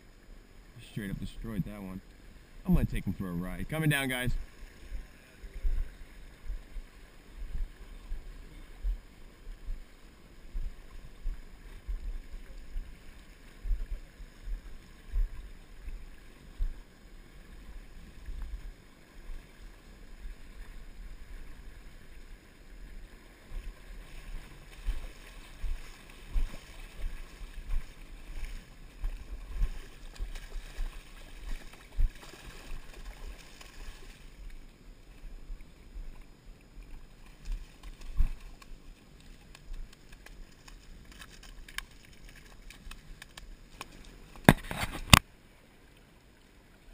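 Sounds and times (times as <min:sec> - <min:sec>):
steady rushing hiss: 0:00.0 - 0:42.0
muffled river water sloshing: 0:00.0 - 0:46.9.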